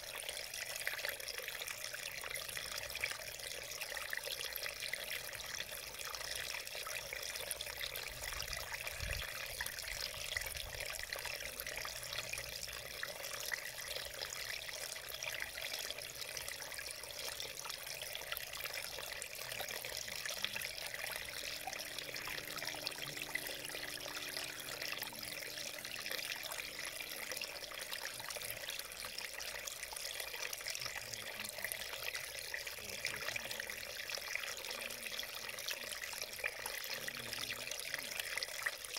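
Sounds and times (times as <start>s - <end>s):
stream running over rocks: 0.0s - 38.9s.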